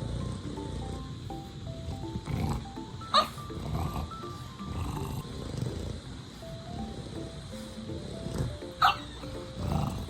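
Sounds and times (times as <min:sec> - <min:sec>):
background music with simple melody: 0:00.0 - 0:10.0.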